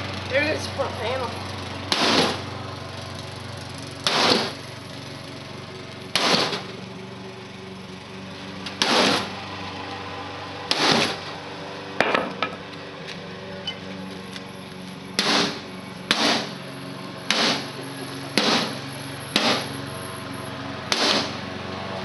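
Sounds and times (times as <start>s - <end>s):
steady motor hum: 0.0s - 22.0s.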